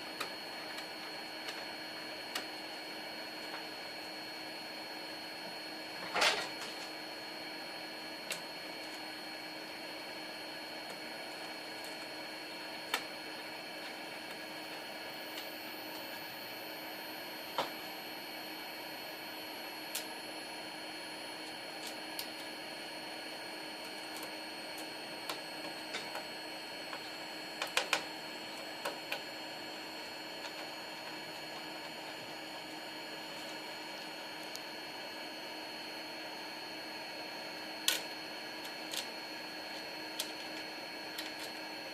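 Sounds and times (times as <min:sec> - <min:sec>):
faint high whine: 0:00.0 - 0:41.9.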